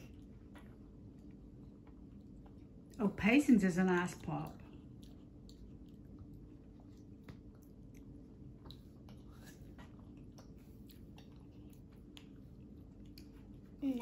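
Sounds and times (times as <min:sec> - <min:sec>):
faint chewing: 0:00.0 - 0:14.0
low room hum: 0:00.0 - 0:14.0.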